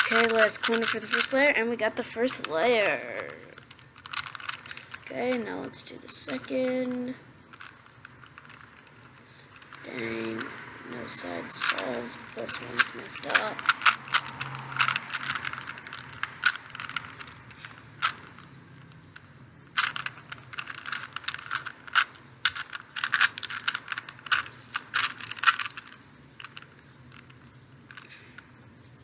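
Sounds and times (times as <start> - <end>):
plastic puzzle cube clicking: 0.0 - 28.5.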